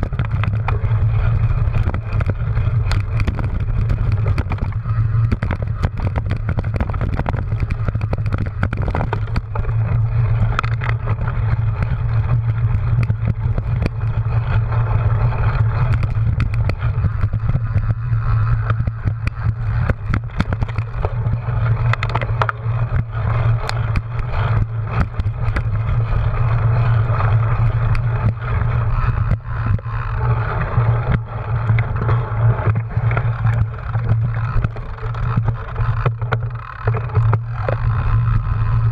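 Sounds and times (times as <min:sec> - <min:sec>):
bike clicks and rattles: 0:00.0 - 0:38.9
bike tyre noise: 0:00.0 - 0:38.9.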